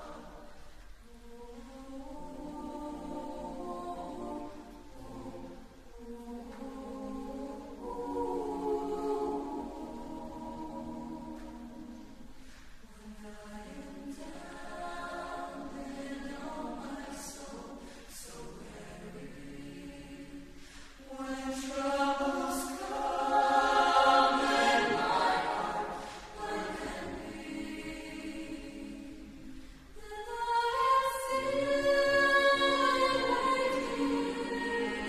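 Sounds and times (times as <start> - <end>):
choir singing sustained chords: 0.0 - 35.0.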